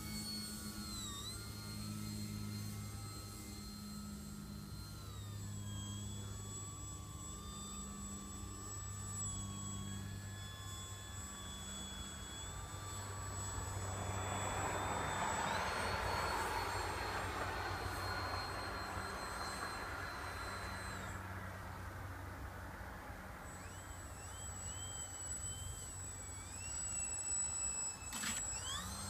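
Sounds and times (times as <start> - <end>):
model plane motor whining: 0.0 - 29.0
propeller rush: 0.0 - 29.0.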